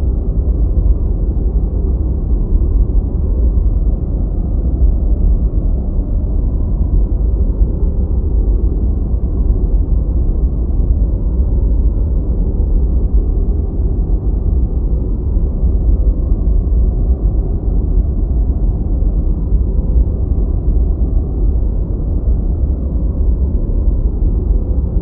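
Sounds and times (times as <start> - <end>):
deep white noise: 0.0 - 25.0.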